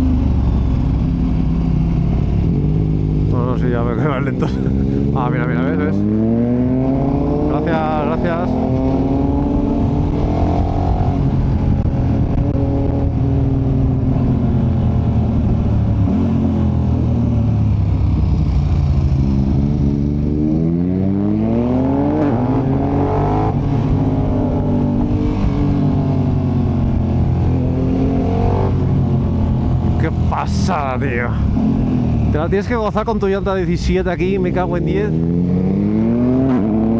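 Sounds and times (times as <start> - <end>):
motorcycle engine revving: 0.0 - 32.8, 34.3 - 36.9.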